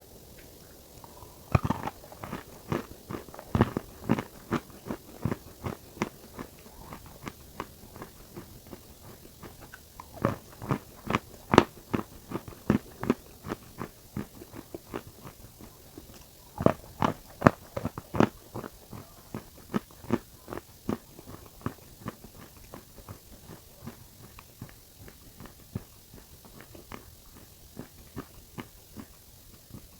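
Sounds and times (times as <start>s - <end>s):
crunchy cookies being chewed: 0.3s - 29.9s.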